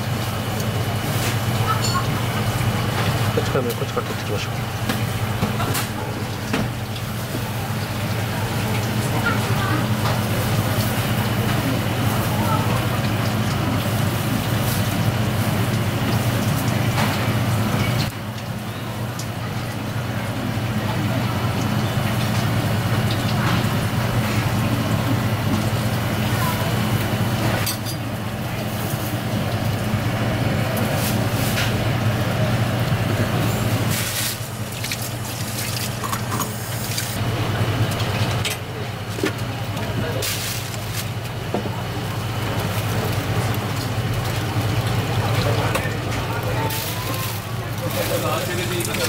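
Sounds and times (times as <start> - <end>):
mechanical hum: 0.0 - 49.0.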